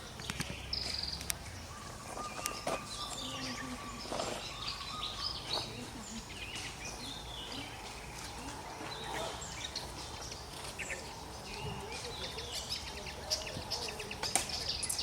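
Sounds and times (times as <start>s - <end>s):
bird chirps and trills: 0.0s - 15.0s.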